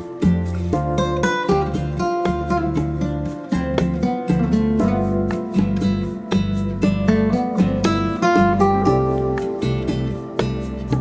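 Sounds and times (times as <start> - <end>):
acoustic guitar plucking: 0.0 - 11.0.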